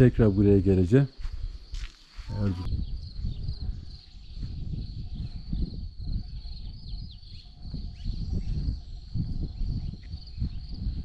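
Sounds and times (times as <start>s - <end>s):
crickets chirping: 0.0s - 11.0s
wind buffeting microphone: 0.0s - 11.0s.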